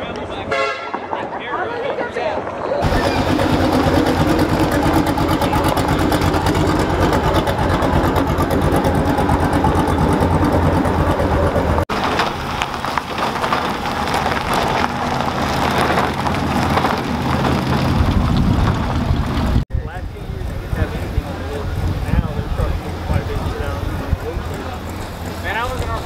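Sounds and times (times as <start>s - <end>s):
car engines rumbling past: 2.8s - 26.0s.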